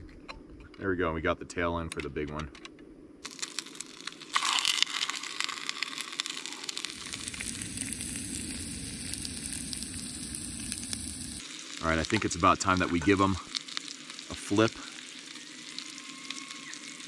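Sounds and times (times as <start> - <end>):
fish sizzling in pan: 3.2 - 17.0.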